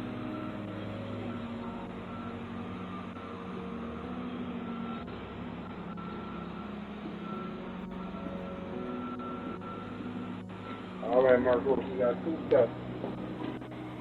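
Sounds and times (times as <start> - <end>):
reversing alarm beeping: 0.0 - 14.0
truck engine running: 0.0 - 14.0.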